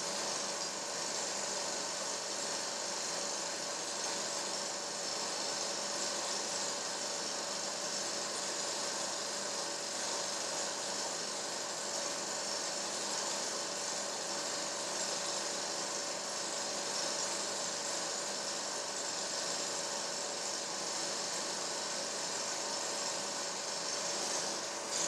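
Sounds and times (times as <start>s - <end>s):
film projector whirring: 0.0s - 25.0s.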